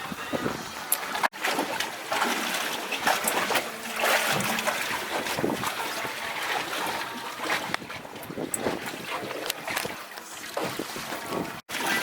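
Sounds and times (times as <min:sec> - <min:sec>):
water splashing against boat hull: 0:00.3 - 0:12.0.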